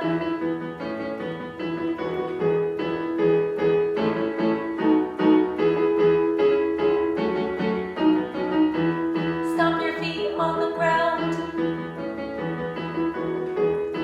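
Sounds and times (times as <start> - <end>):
piano playing simple tune: 0.0 - 14.0.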